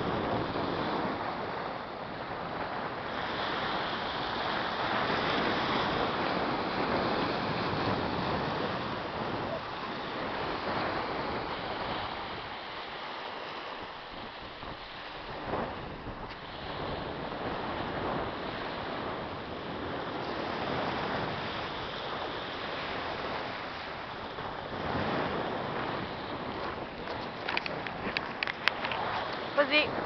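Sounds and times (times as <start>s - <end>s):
small waves breaking on beach: 0.0s - 30.0s
wind buffeting microphone: 0.0s - 30.0s.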